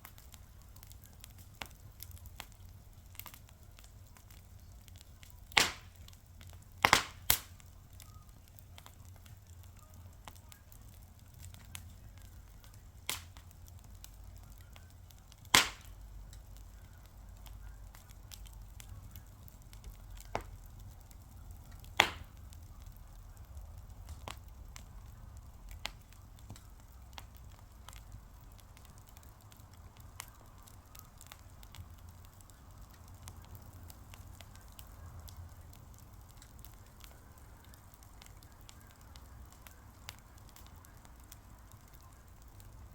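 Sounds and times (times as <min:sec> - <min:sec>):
loud fire pops: 0:00.0 - 0:42.9
low rumble of burning: 0:00.0 - 0:42.9
wood fire crackling: 0:00.0 - 0:42.9.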